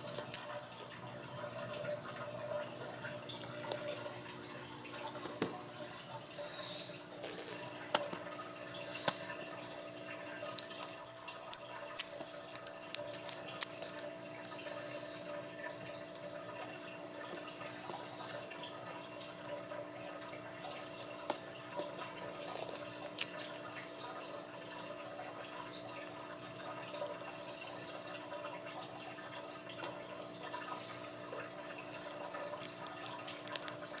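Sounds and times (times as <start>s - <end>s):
faint constant hum: 0.0s - 34.0s
water dripping: 0.0s - 34.0s.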